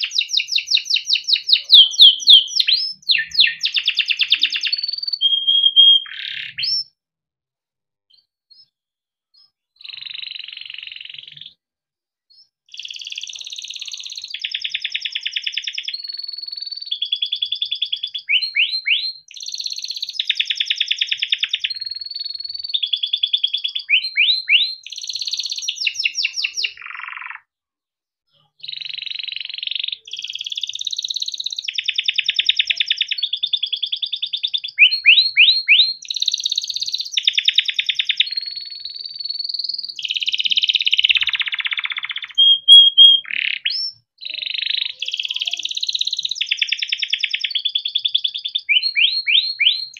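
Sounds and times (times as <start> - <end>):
canary singing trills: 0.0 - 6.9, 9.4 - 11.6, 12.3 - 27.5, 28.4 - 49.9.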